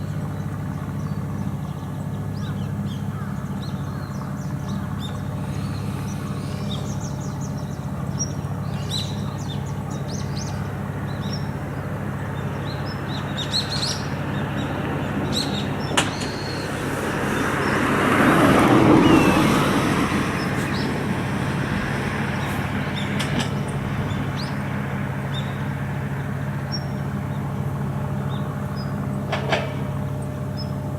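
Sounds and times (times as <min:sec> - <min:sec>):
small birds chirping: 0:00.0 - 0:30.9
steady low hum: 0:00.0 - 0:30.9
vehicle passing: 0:04.6 - 0:30.2.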